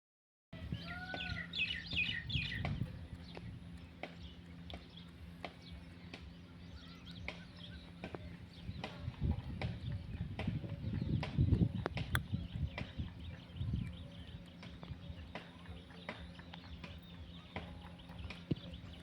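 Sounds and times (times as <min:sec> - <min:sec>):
steady low hum: 0:00.6 - 0:19.0.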